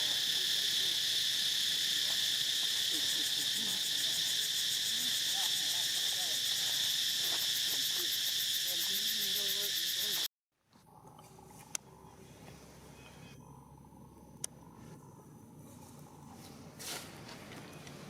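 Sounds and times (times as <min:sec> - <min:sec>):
insect chorus drone: 0:00.0 - 0:10.3, 0:11.5 - 0:18.0.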